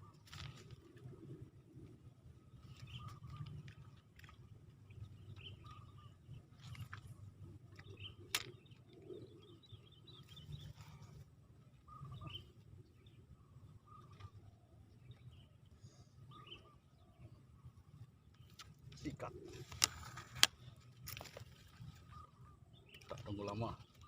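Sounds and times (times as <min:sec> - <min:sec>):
low steady rumble: 0:00.0 - 0:24.0
small birds chirping: 0:00.0 - 0:24.0.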